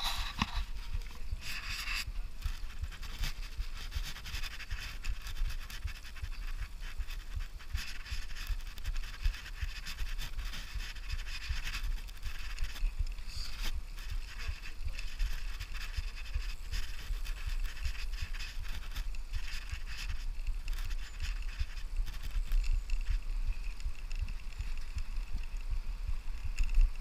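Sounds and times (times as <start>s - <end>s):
road noise hiss: 0.0s - 27.0s.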